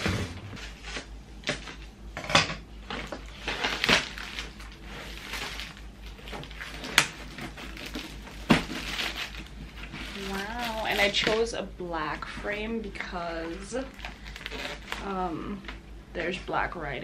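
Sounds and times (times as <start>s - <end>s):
plastic film rustling: 0.5s - 1.9s, 2.8s - 16.4s.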